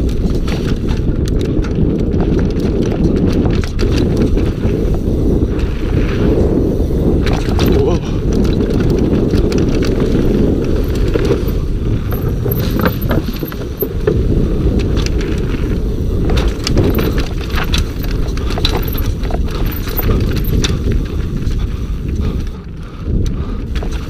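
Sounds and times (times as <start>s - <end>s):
bike rattling and clattering: 0.0s - 24.0s
bike tyres rumbling on dirt: 0.0s - 24.0s.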